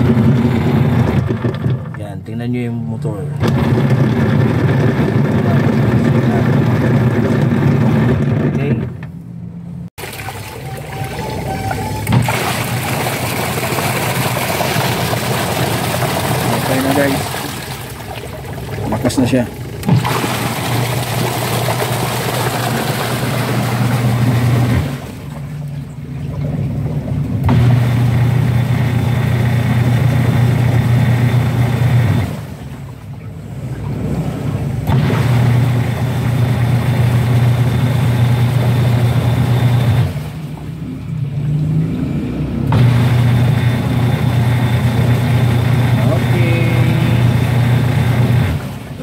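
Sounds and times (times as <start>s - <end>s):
water churning in tub: 0.0s - 2.1s, 3.1s - 8.8s, 10.0s - 49.0s
washing machine motor humming: 0.0s - 49.0s.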